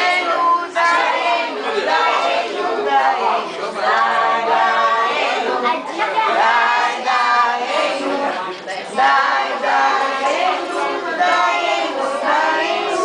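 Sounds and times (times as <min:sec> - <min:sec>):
group singing together: 0:00.0 - 0:13.0.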